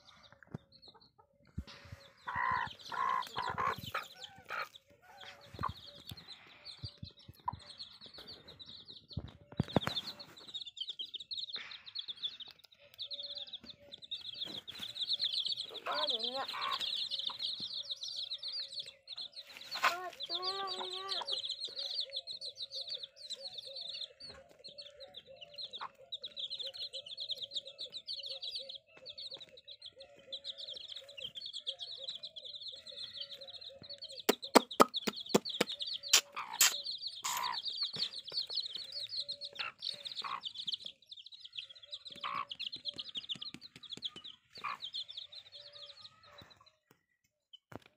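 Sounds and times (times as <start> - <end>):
chicks peeping: 0.0 - 47.9
hen clucking: 0.8 - 8.0, 13.8 - 40.9, 41.6 - 46.5.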